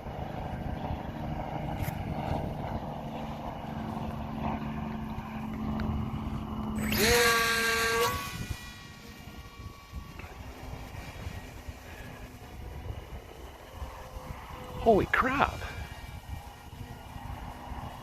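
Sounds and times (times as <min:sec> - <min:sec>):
small motor and propeller whine: 0:00.0 - 0:18.0
wind buffeting microphone: 0:00.0 - 0:18.0.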